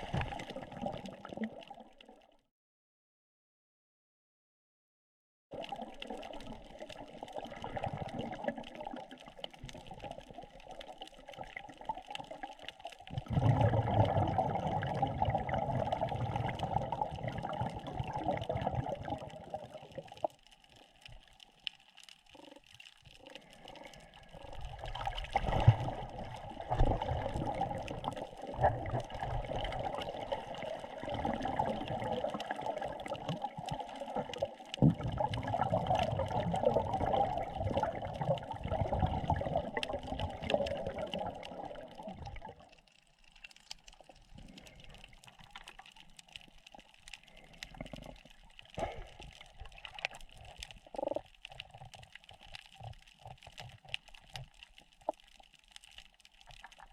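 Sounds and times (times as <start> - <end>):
underwater water rumble: 0.0 - 2.2, 5.6 - 56.9
faint crackling clicks: 5.6 - 13.3, 15.9 - 56.9.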